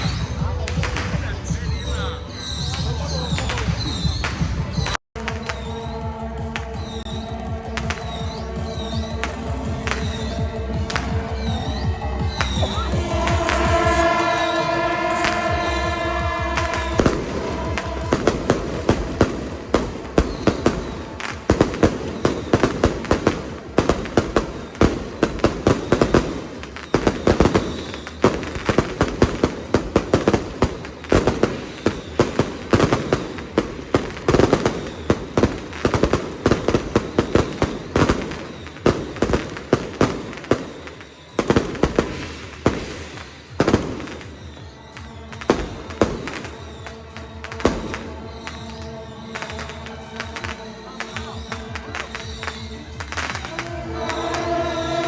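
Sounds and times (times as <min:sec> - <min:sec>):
firecrackers going off: 0:00.0 - 0:55.0.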